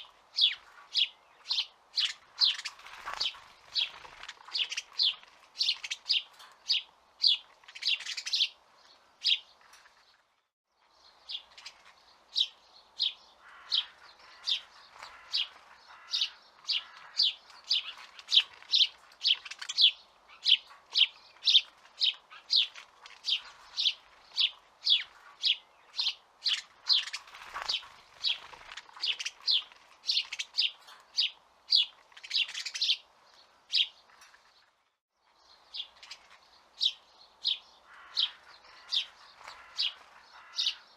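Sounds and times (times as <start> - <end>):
sparrow chirping: 0.0 - 40.9.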